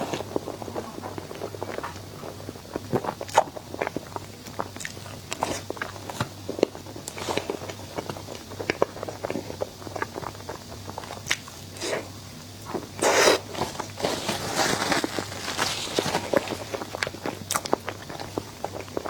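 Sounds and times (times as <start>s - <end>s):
crunchy bites and chewing: 0.0s - 19.0s.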